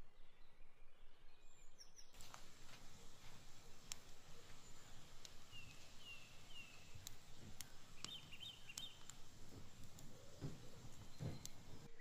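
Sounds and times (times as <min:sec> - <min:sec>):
bird chirping and warbling: 0:01.6 - 0:12.0
campfire crackling and popping: 0:02.2 - 0:12.0.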